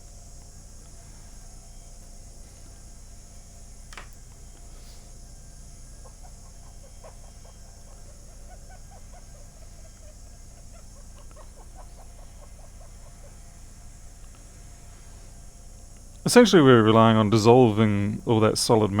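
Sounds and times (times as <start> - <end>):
faint chirping clicks: 0.0 - 16.3
low electrical hum and hiss: 0.0 - 19.0.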